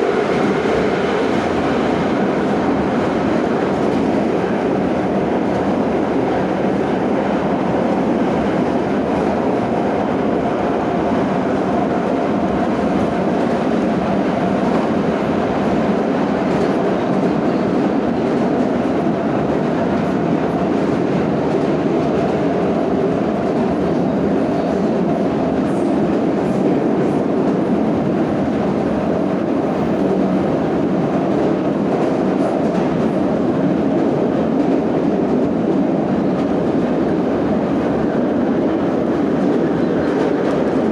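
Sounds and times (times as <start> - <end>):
subway train wheels rumbling on rails: 0.0 - 40.9.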